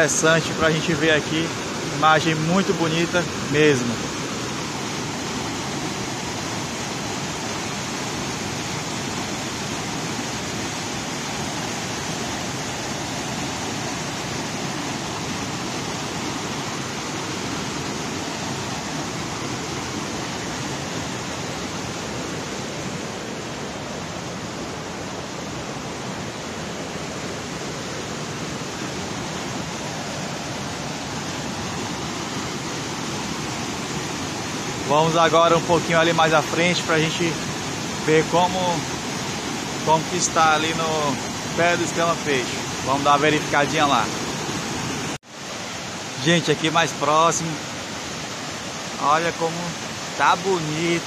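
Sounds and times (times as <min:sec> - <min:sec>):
water rushing over rock ledges: 0:00.0 - 0:51.0.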